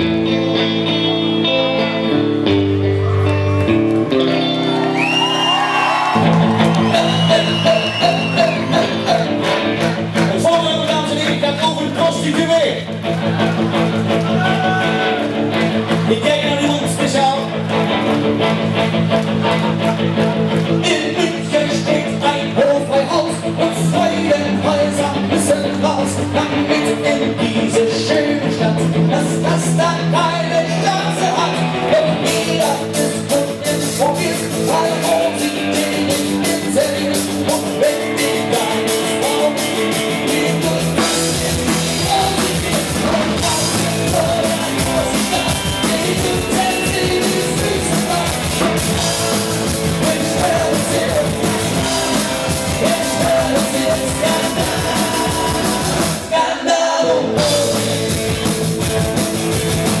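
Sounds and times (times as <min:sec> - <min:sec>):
electric guitar: 0:00.0 - 1:00.0
drum kit: 0:05.0 - 1:00.0.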